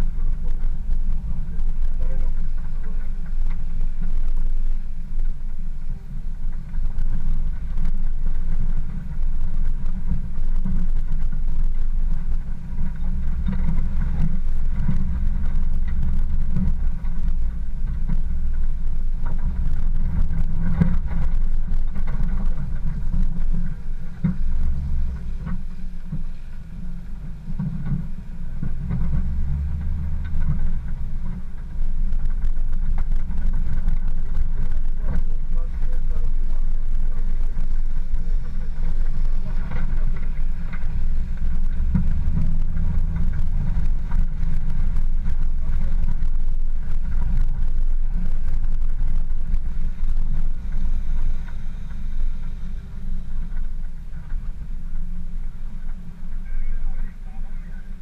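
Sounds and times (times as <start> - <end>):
vehicle rumbling on dirt track: 0.0 - 58.0.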